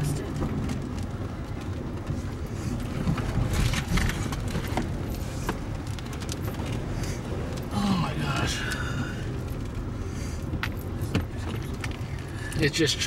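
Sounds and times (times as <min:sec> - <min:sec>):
low rumble of wind: 0:00.0 - 0:13.0
road noise: 0:00.0 - 0:13.0.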